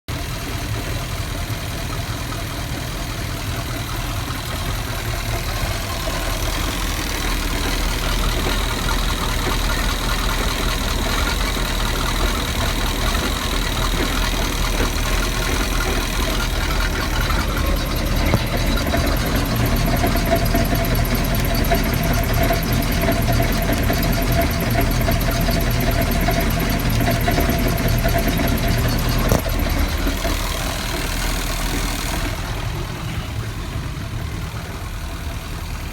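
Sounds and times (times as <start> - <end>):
engine clunking: 0.0 - 35.9
boat engine running: 0.1 - 35.9.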